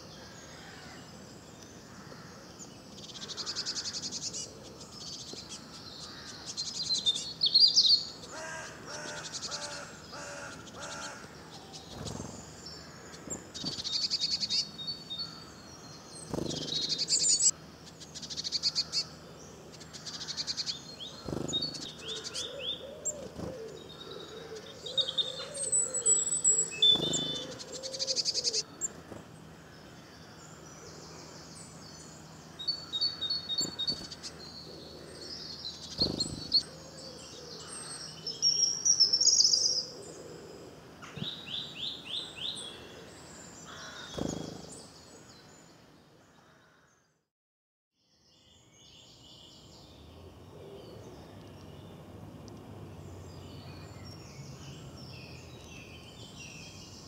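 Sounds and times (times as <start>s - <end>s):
songbirds singing and calling: 0.0s - 47.2s, 48.0s - 57.0s.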